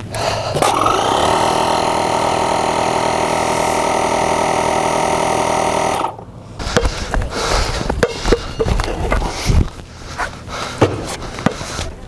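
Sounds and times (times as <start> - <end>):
air compressor motor humming: 0.0 - 11.8.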